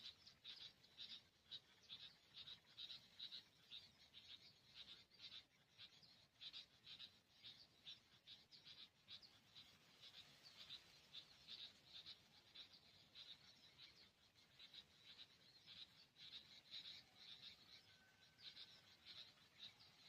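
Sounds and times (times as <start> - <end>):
rapid high-pitched chirping: 0.0 - 20.0.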